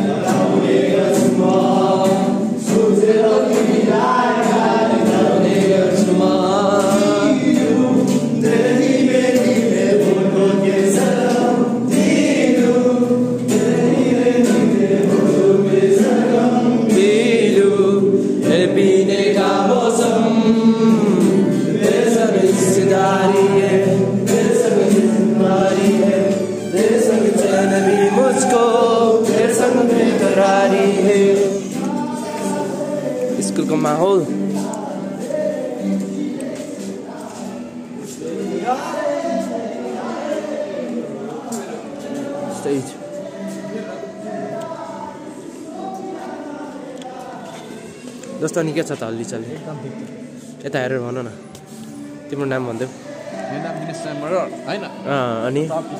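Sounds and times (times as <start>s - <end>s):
musical accompaniment: 0.0s - 48.6s
several voices singing together: 0.0s - 55.9s.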